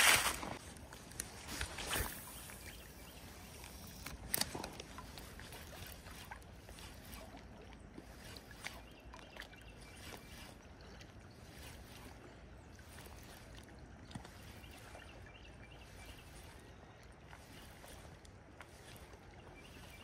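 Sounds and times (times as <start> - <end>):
river water lapping at bank: 0.0 - 20.0.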